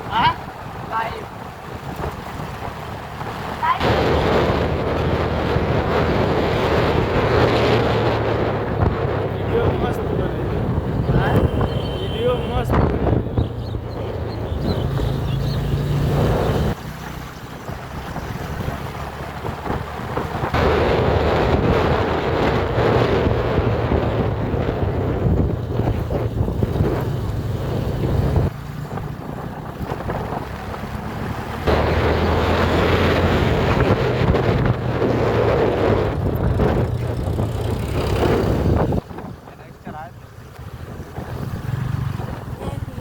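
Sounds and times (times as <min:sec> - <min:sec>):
motorcycle engine running: 0:00.0 - 0:43.0
wind buffeting microphone: 0:00.0 - 0:43.0.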